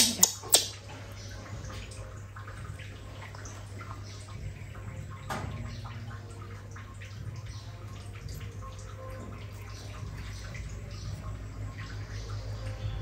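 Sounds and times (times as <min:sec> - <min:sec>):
wet dabbing and dripping: 0:00.0 - 0:13.0.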